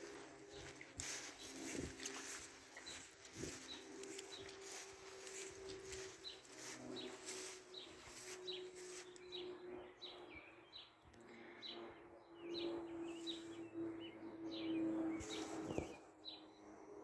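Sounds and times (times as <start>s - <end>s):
small birds chirping: 0.0s - 11.0s, 11.6s - 16.7s.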